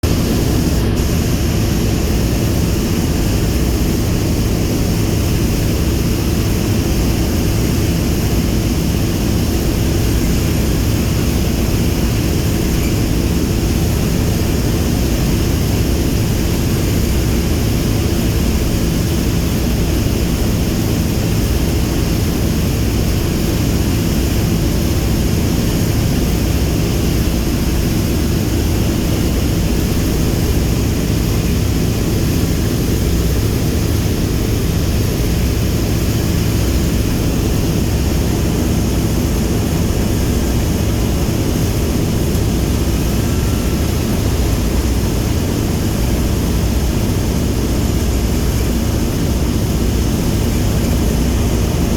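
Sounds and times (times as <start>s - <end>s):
deep propeller engine drone: 0.0s - 51.9s.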